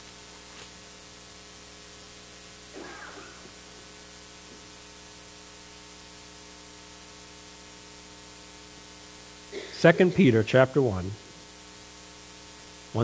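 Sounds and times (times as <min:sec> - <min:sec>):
low electrical hum: 0:00.0 - 0:13.0
steady background hiss: 0:00.0 - 0:13.0.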